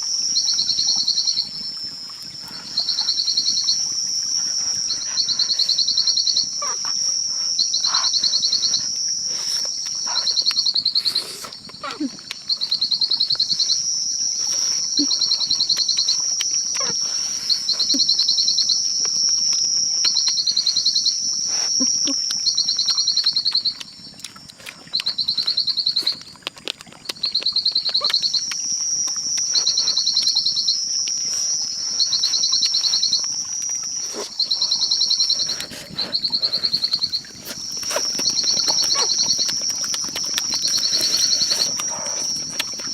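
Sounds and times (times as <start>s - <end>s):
rapid pulsing insect trill: 0.0s - 26.4s, 27.0s - 42.9s.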